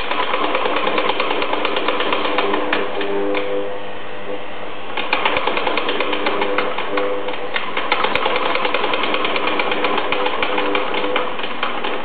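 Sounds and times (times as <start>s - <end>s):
sewing machine stitching: 0.0s - 3.5s, 5.0s - 12.0s.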